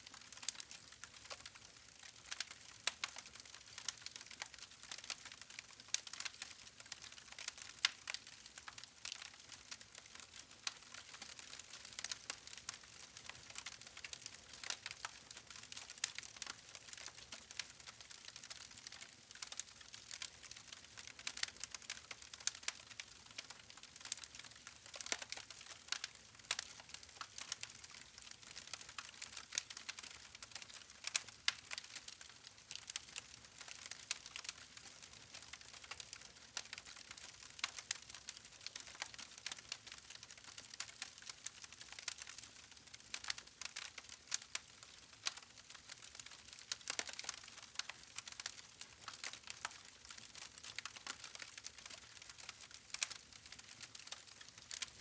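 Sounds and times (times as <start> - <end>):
wood fire crackling: 0.2 - 55.0.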